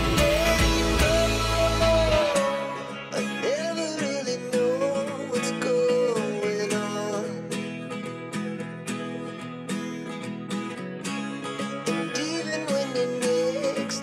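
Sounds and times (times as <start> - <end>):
acoustic guitar music: 0.0 - 14.0
plucked guitar notes: 0.0 - 14.0.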